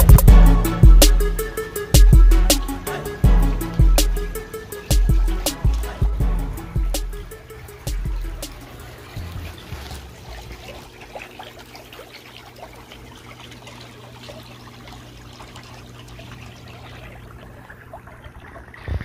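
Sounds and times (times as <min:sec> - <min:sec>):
low hum: 0:00.0 - 0:19.0
water trickling and lapping: 0:00.0 - 0:19.0.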